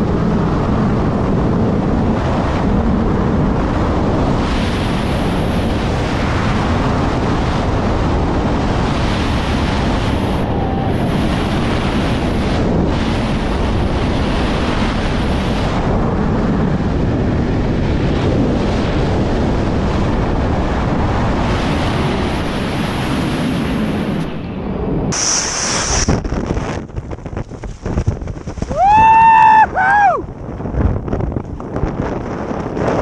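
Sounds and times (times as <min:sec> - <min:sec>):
wind roaring over microphone: 0:00.0 - 0:33.0
wind rustling and buffeting: 0:00.0 - 0:33.0.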